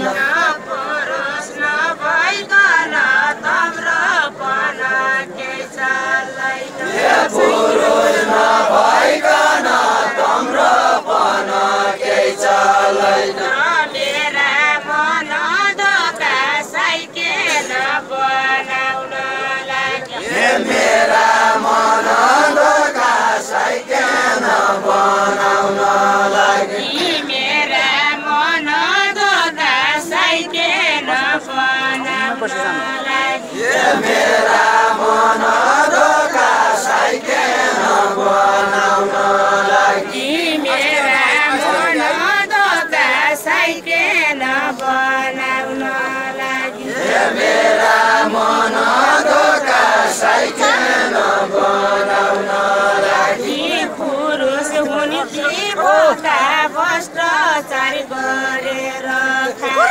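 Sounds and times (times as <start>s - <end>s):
chorus singing folk song: 0.0s - 59.9s.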